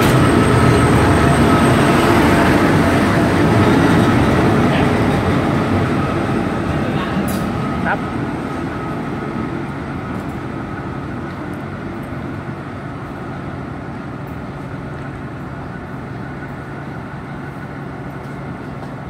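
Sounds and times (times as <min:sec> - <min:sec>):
diesel train pulling away: 0:00.0 - 0:19.0.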